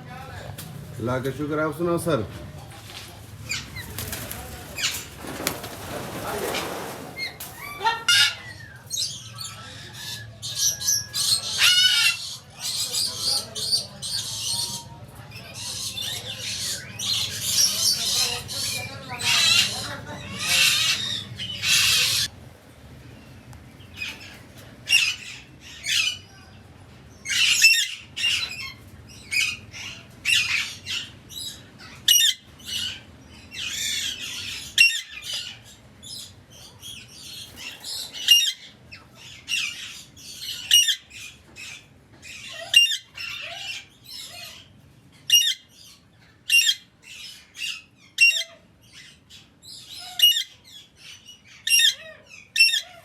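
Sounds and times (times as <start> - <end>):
birds calling: 0.0 - 53.0.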